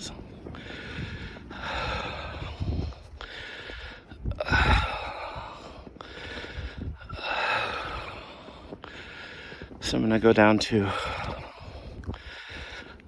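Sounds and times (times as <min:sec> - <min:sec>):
person breathing hard: 0:00.0 - 0:09.8, 0:10.8 - 0:13.0.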